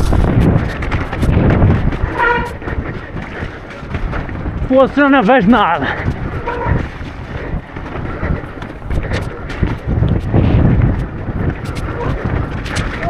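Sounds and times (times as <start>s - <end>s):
bike clicks and rattles: 0.0s - 13.0s
tyres rumbling on rough ground: 0.0s - 13.0s
wind buffeting the microphone: 0.0s - 13.0s.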